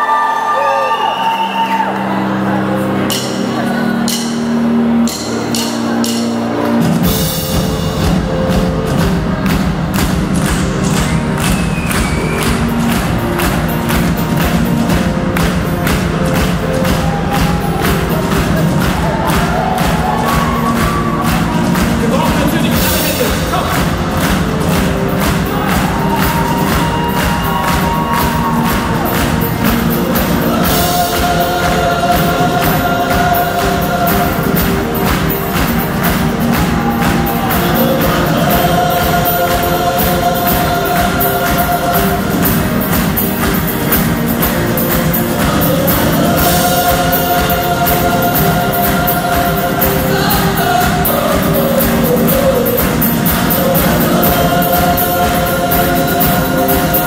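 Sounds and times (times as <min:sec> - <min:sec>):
rock band guitars and drums: 0:03.0 - 0:57.0
choir singing held notes: 0:10.9 - 0:57.0.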